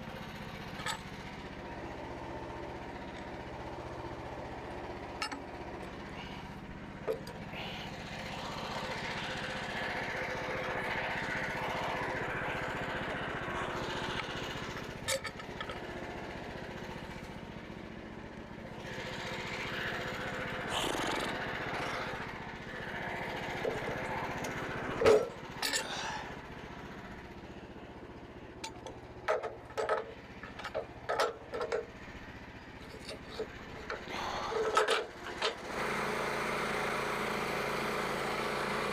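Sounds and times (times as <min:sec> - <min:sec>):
small engine humming: 0:00.0 - 0:38.9.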